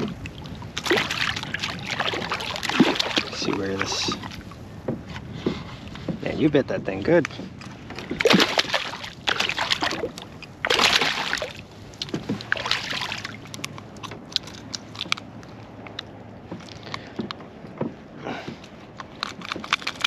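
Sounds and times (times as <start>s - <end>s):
fish splashing: 0.0s - 4.8s, 7.6s - 17.4s, 18.3s - 20.0s.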